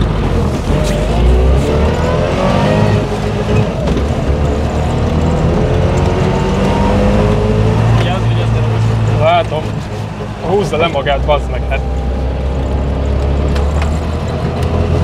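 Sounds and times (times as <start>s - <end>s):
two-stroke car engine accelerating: 0.0s - 15.0s.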